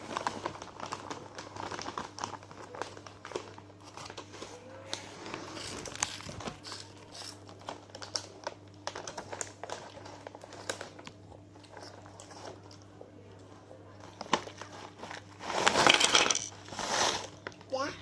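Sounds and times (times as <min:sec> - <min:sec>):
plastic snack packets crinkling: 0:00.0 - 0:12.9, 0:13.9 - 0:17.9.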